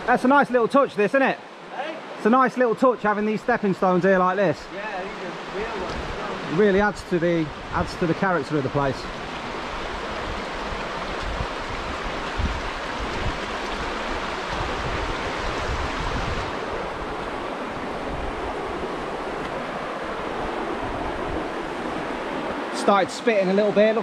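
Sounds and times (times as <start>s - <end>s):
water rushing over rocks: 0.0s - 24.0s.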